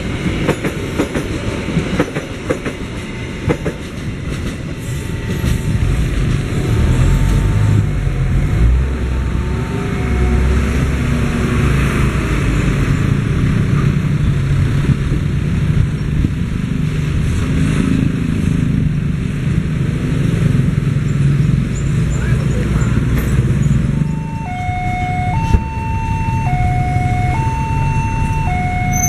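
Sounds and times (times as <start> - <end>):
train coach rolling past: 0.0 - 29.0
engine noise: 2.6 - 29.0.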